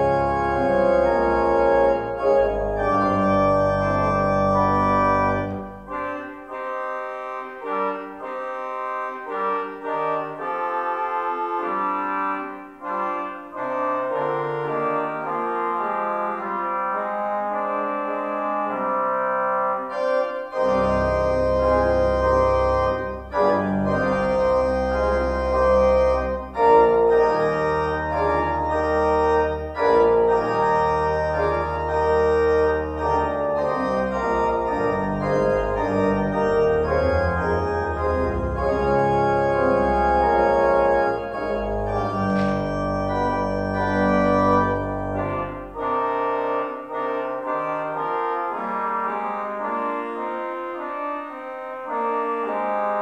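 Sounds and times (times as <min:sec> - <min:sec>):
church organ chords and melody: 0:00.0 - 0:53.0
deep organ pedal bass: 0:00.0 - 0:53.0.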